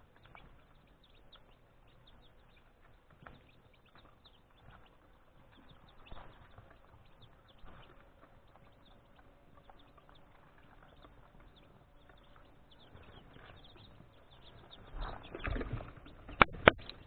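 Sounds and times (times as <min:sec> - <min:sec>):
chicks peeping: 0:00.0 - 0:17.0
light ticks of pecking in shavings: 0:00.0 - 0:17.0.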